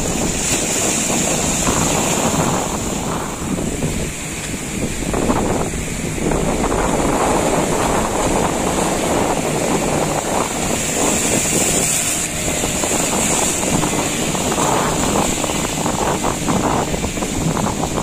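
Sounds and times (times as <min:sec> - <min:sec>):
boat motor running: 0:00.0 - 0:18.0
sea waves: 0:00.0 - 0:18.0
wind buffeting microphone: 0:00.0 - 0:18.0.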